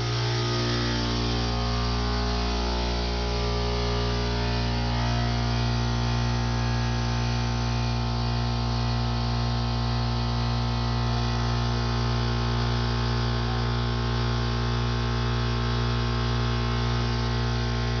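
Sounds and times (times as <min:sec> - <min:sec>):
electrical machine hum: 0:00.0 - 0:18.0.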